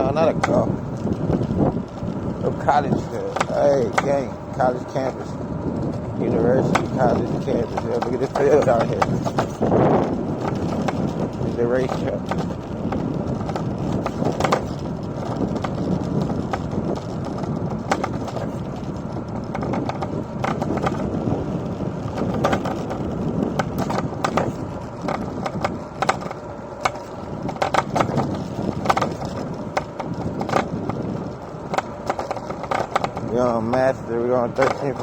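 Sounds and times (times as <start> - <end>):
scooter wheels rolling on pavement: 0.0 - 35.0
sharp clicks and rattles: 0.0 - 35.0.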